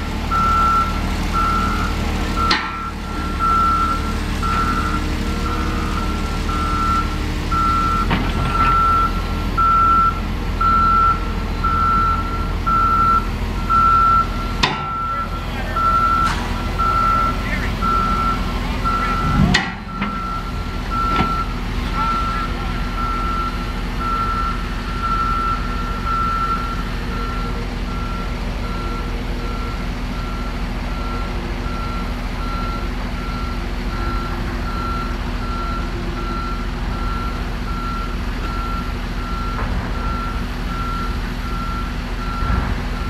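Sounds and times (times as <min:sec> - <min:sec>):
diesel engine running: 0:00.0 - 0:43.0
reversing alarm beeping: 0:00.3 - 0:43.0.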